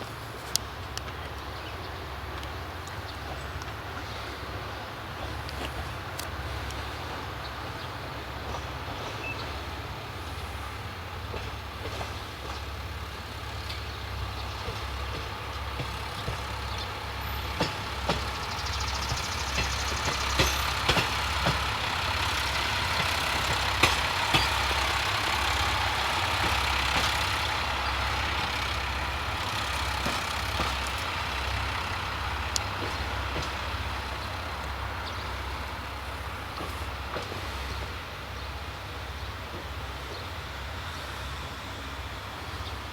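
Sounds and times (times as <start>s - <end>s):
wheels clicking over rail joints: 0.0s - 40.8s
diesel railcar engine drone: 0.0s - 42.9s.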